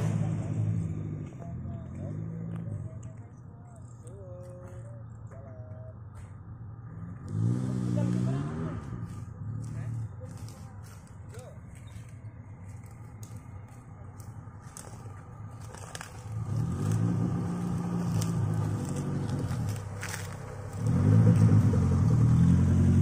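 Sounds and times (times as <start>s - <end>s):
off-road vehicle engine climbing: 0.0s - 23.0s.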